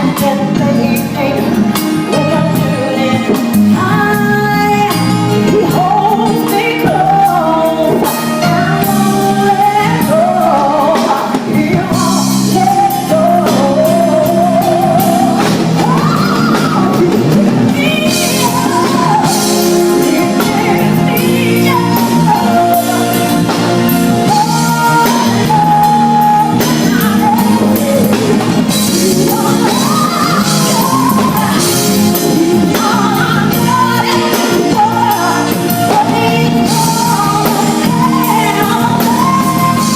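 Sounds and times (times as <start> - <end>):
live band playing: 0.0 - 39.9
person singing: 0.0 - 39.9.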